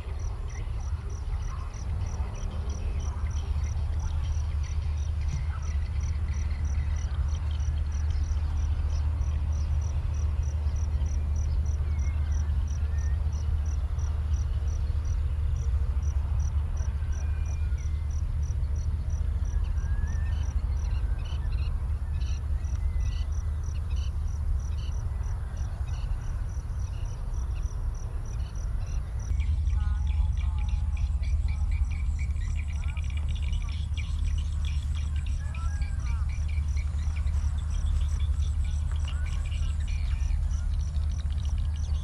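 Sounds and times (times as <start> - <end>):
constant low rumble: 0.0 - 42.0
insects chirping: 0.0 - 42.0.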